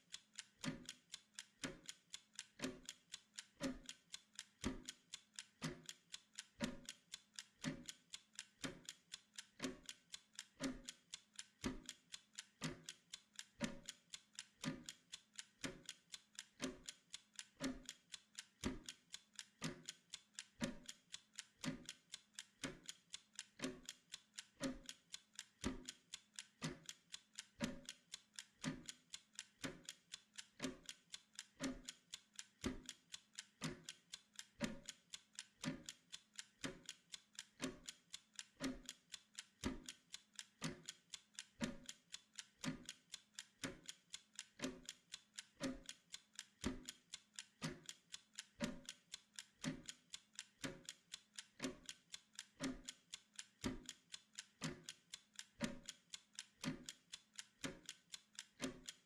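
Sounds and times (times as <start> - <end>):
clockwork timer ticking: 0.0 - 59.0.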